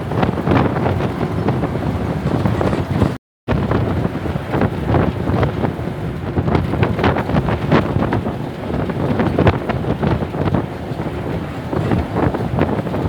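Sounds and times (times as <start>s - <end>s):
bus engine and road noise: 0.0s - 13.0s
wind buffeting microphone: 0.0s - 13.0s.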